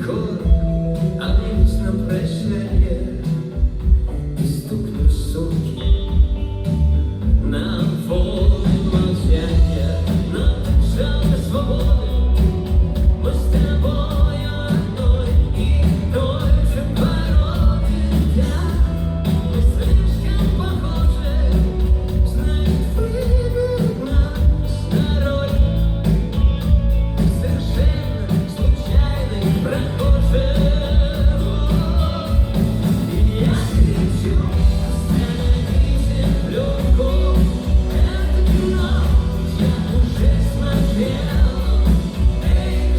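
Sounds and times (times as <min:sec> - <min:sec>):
rock band playing live: 0:00.0 - 0:42.9
person singing: 0:07.3 - 0:26.4, 0:27.1 - 0:42.9.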